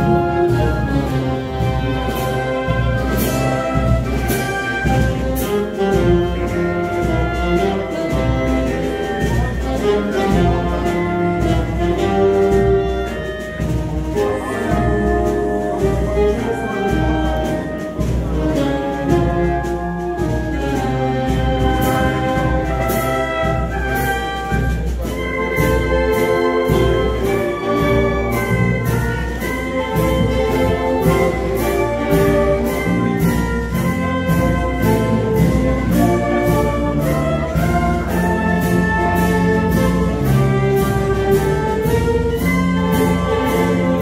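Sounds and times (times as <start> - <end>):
concert band playing: 0.0 - 44.0.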